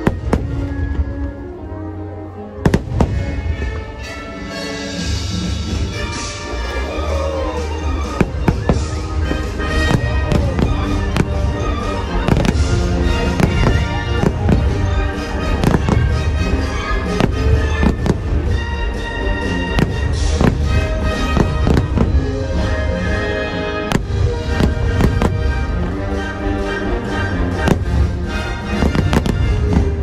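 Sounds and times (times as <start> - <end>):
fireworks bangs: 0.0 - 1.4, 2.6 - 3.9, 5.2 - 26.6, 27.4 - 30.0
loud show music: 2.6 - 30.0.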